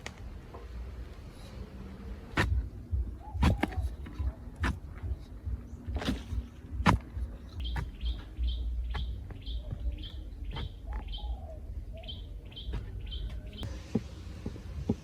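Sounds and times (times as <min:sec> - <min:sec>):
bird chirping: 0:01.4 - 0:15.0.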